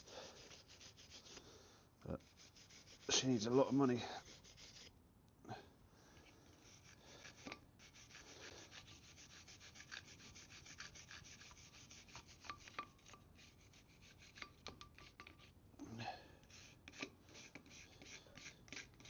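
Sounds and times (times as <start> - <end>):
hand brush scrubbing: 0.0 - 1.5, 2.1 - 4.9, 6.6 - 15.5, 16.5 - 19.0.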